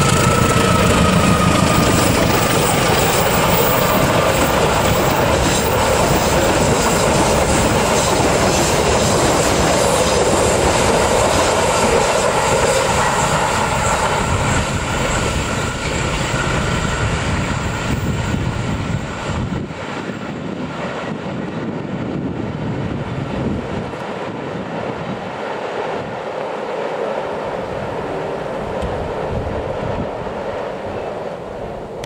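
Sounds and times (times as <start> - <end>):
train wheels on rails: 0.0 - 32.0.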